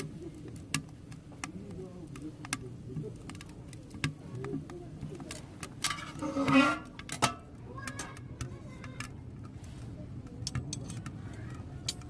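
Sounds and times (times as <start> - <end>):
faint low murmur: 0.0 - 12.0
firewood crackling in a stove: 0.0 - 12.0.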